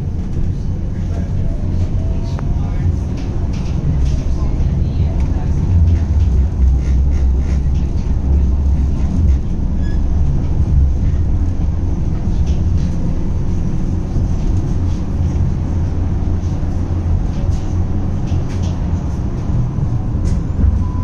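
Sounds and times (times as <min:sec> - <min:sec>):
tram rumbling along rails: 0:00.0 - 0:21.0.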